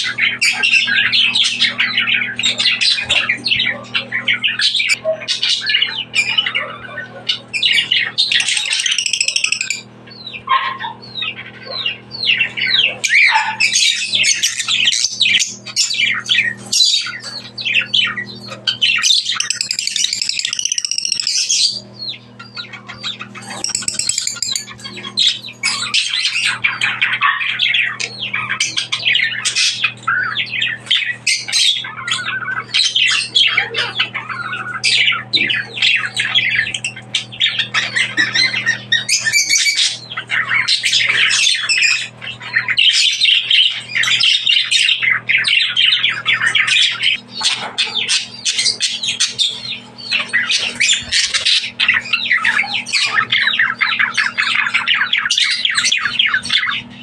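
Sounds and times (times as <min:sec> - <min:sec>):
parrots squawking and chirping: 0:00.0 - 0:57.0.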